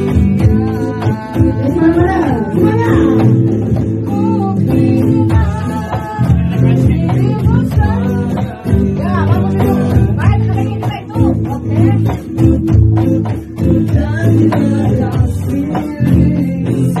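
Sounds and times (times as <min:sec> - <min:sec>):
guitar chords: 0:00.0 - 0:17.0
person singing: 0:00.0 - 0:17.0.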